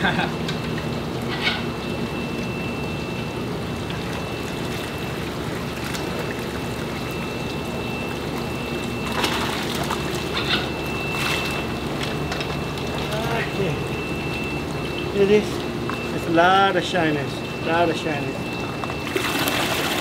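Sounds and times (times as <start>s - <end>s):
water rushing in tanks: 0.0s - 20.0s
water splashing and dripping: 0.0s - 20.0s.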